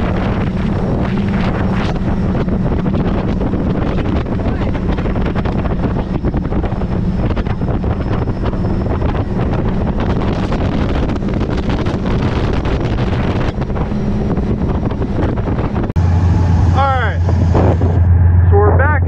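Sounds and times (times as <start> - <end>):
boat engine drone: 0.0 - 19.0
wind buffeting microphone: 0.0 - 19.0.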